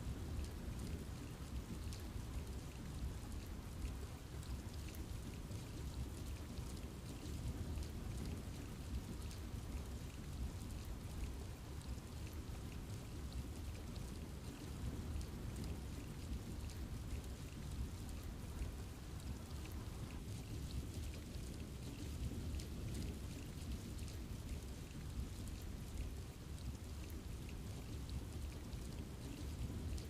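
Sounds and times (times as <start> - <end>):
rain on foliage: 0.0 - 30.0.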